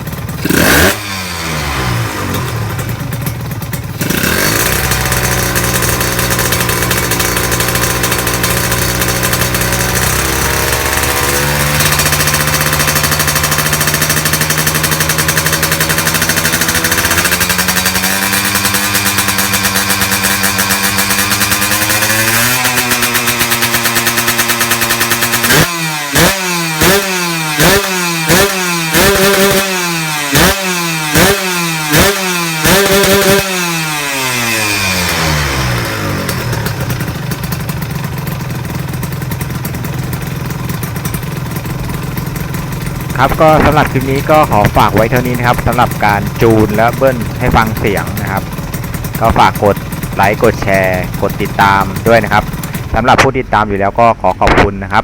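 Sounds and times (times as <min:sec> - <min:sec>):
motorcycle engine revving: 0:00.0 - 0:55.0
motorcycle engine running: 0:00.0 - 0:55.0.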